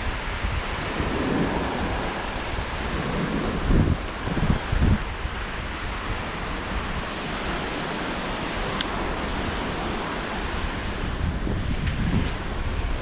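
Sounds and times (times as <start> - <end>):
waves breaking on beach: 0.0 - 13.0
wind rumbling on microphone: 0.0 - 13.0.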